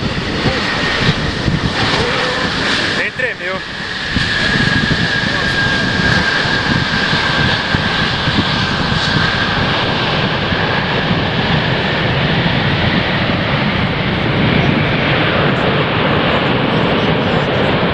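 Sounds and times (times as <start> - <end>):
high engine whine: 0.0 - 17.9
jet engines roaring: 0.0 - 17.9.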